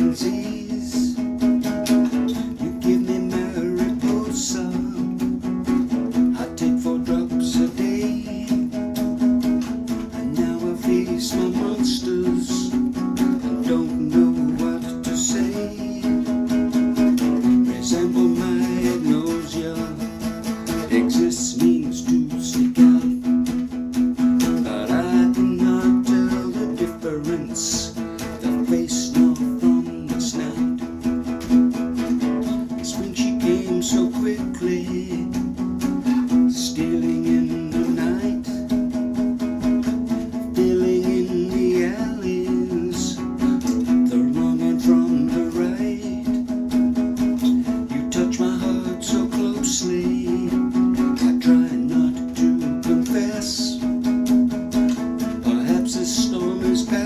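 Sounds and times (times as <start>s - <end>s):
acoustic guitar plucked and strummed: 0.0s - 57.0s.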